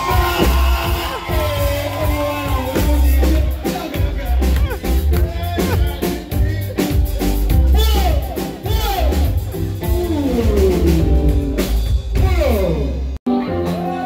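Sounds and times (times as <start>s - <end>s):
drum kit: 0.0s - 14.0s
electric bass guitar: 0.0s - 14.0s
person singing: 0.0s - 14.0s.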